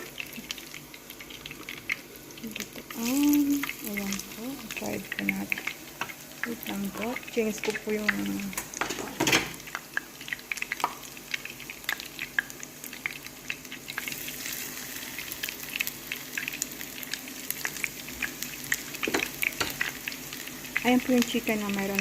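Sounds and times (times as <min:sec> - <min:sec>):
chicken frying in hot oil: 0:00.0 - 0:22.0.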